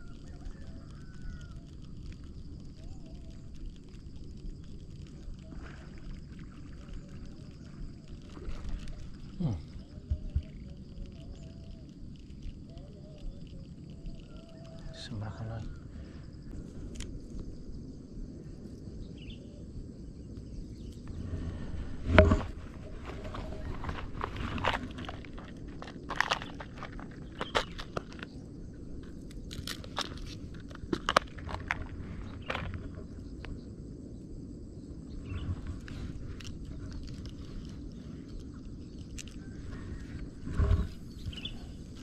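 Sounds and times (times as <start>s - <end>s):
low outdoor rumble: 0.0s - 42.0s.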